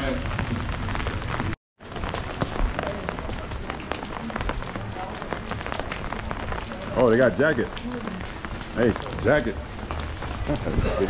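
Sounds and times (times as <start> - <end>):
rain drops ticking: 0.0 - 11.0.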